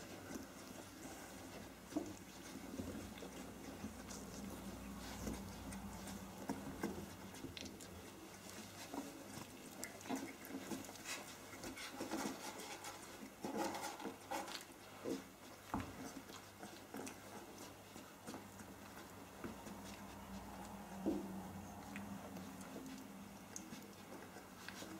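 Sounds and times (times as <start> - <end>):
puppy noises: 0.0 - 24.9
puppy paws scrabbling: 0.0 - 24.9.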